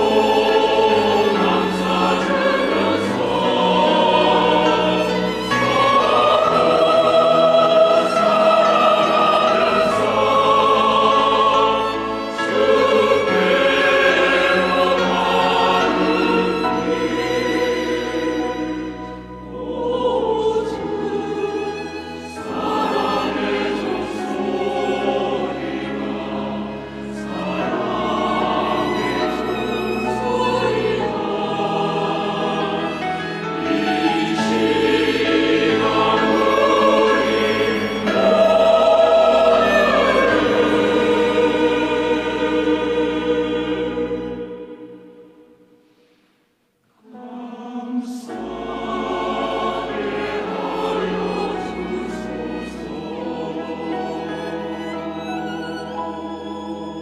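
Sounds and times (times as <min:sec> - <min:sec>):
church choir singing a hymn: 0:00.0 - 0:46.0, 0:47.0 - 0:57.0.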